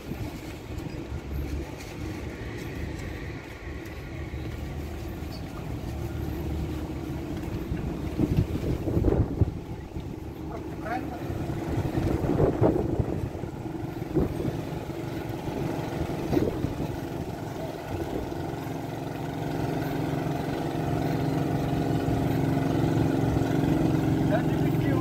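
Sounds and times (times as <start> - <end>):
large engine idling: 0.0 - 25.0.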